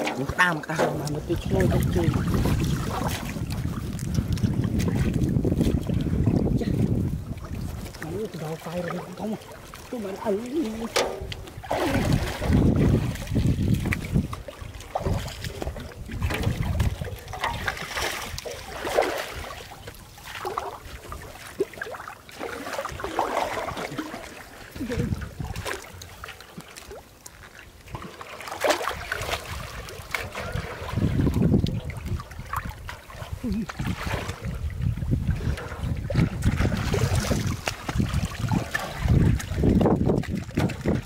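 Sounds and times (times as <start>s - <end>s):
muddy water splashing: 0.0s - 41.0s.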